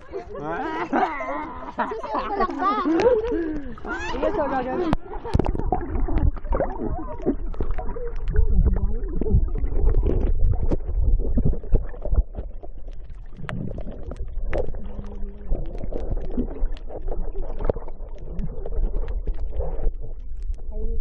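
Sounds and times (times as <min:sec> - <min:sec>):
underwater low rumble: 0:00.0 - 0:21.0
water gurgling: 0:00.0 - 0:21.0.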